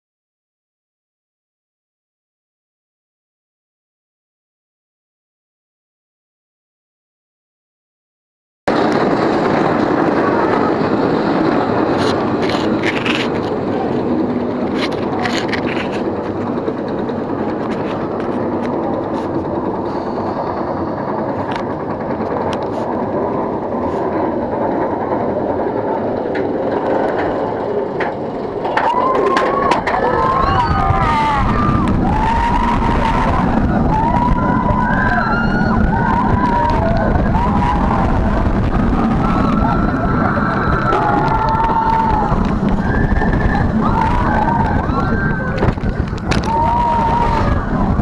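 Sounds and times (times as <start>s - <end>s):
roller coaster chain lift clattering: 8.7s - 48.0s.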